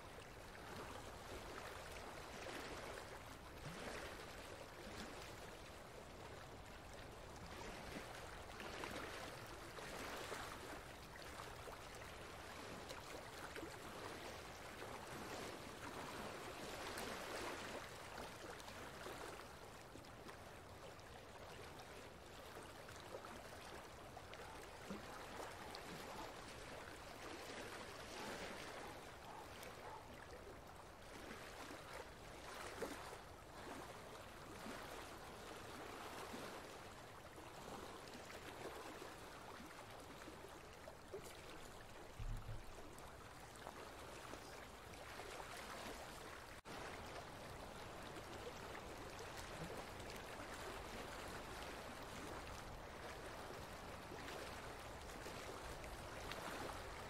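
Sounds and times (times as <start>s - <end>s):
running water: 0.5s - 57.0s.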